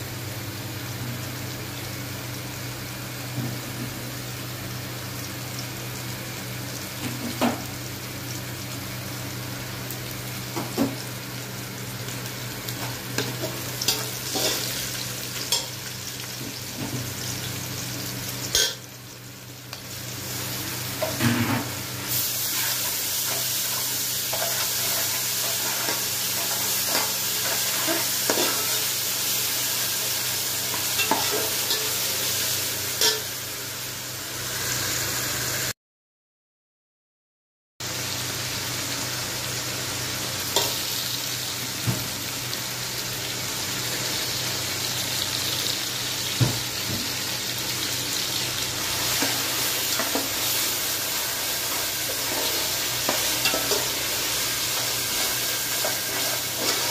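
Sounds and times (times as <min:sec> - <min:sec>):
vegetables sizzling in oil: 0:00.0 - 0:35.7, 0:37.8 - 0:56.9.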